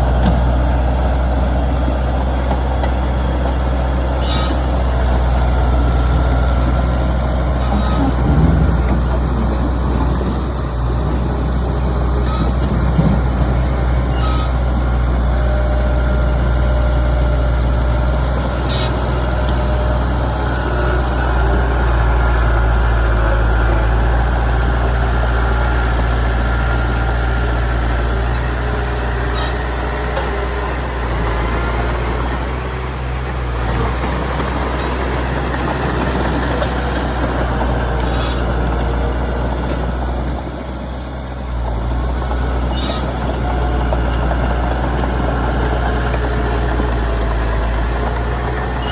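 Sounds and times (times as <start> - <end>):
bulldozer diesel engine humming: 0.0 - 48.9.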